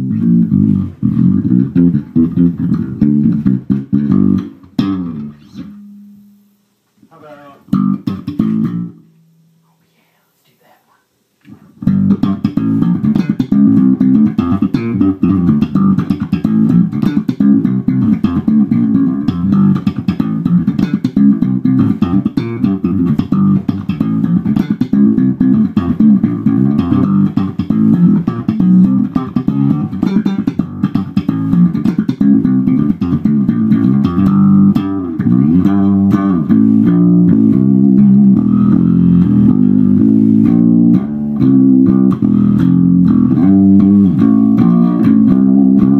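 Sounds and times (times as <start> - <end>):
funky electric bass playing: 0.0 - 6.6, 7.2 - 9.6, 11.7 - 45.9.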